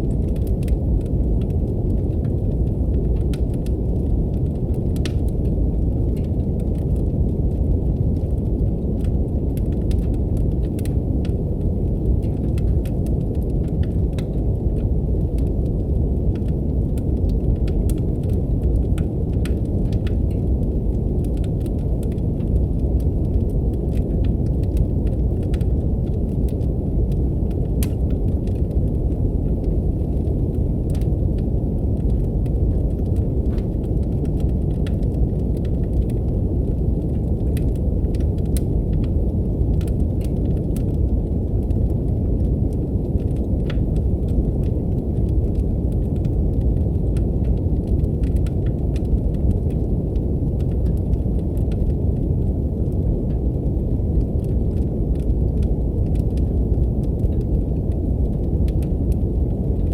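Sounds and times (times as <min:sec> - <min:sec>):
brown noise rumbling hiss: 0:00.0 - 0:59.9
wood fire crackling: 0:00.0 - 0:59.9.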